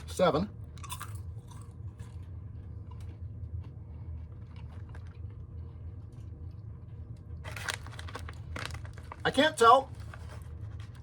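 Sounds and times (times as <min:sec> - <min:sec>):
popcorn being chewed: 0:00.0 - 0:11.0.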